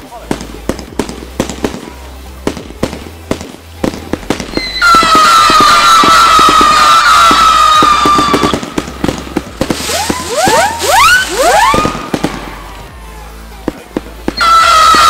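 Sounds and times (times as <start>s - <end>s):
firework cracks: 0.0s - 15.0s
firework whistling: 0.1s - 15.0s.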